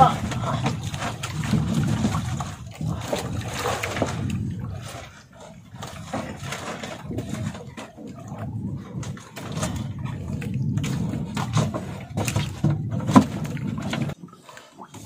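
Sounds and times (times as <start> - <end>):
water splashing against boat: 0.0 - 15.0.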